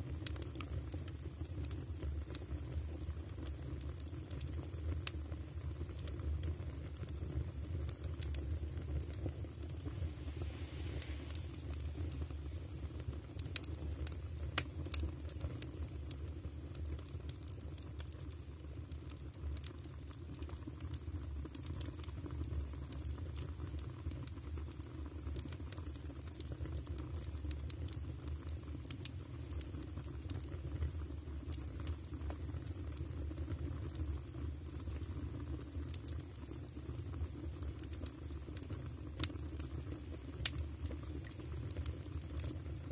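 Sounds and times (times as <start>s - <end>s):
low rumble of fire: 0.0s - 42.9s
firewood crackling: 3.2s - 33.1s, 33.8s - 42.8s.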